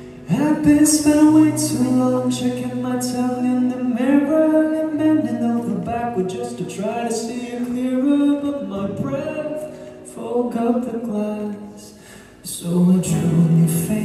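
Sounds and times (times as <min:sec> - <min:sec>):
acoustic guitar: 0:00.0 - 0:14.0
man singing into microphone: 0:00.0 - 0:14.0.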